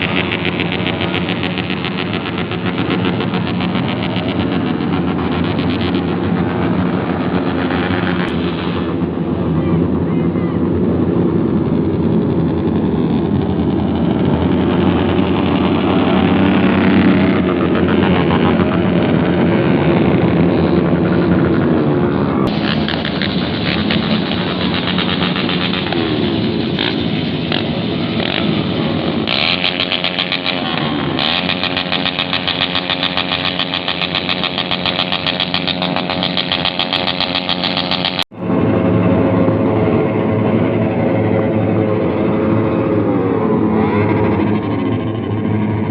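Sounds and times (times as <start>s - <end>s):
motorcycles revving: 0.0s - 45.9s.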